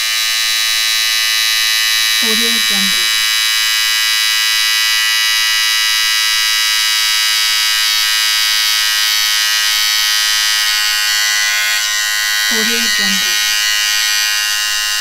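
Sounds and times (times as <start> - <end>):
electric trimmer buzzing: 0.0 - 15.0.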